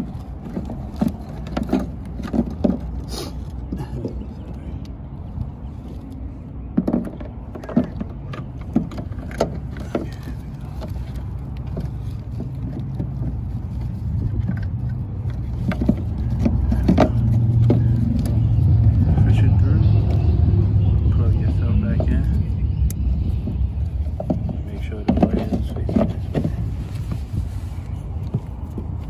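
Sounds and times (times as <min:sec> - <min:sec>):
engine rumble: 0:00.0 - 0:29.0.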